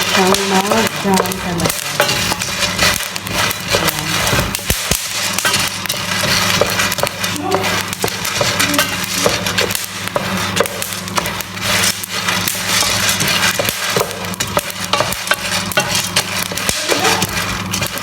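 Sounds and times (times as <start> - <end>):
coffee beans scraping in a pan: 0.0 - 18.0.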